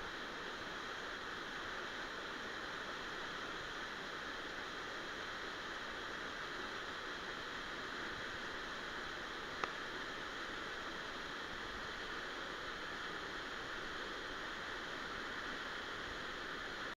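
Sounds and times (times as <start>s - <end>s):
waterfall rushing: 0.1s - 16.9s.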